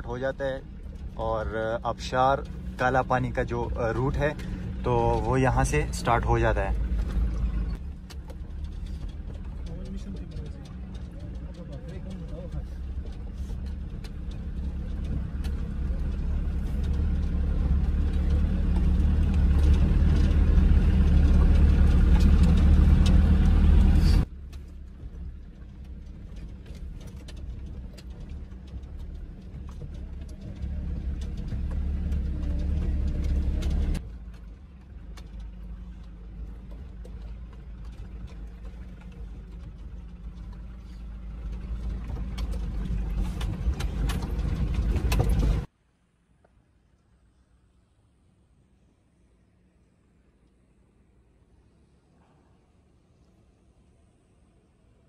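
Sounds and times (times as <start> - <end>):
road noise: 0.0 - 55.0
vehicle engine and tyres rumbling: 0.0 - 55.0.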